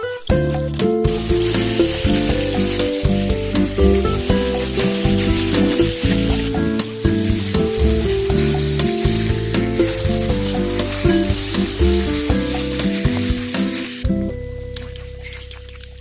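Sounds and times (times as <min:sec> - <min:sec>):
curry sizzling in a pan: 0:00.0 - 0:14.3
background music: 0:00.0 - 0:16.0.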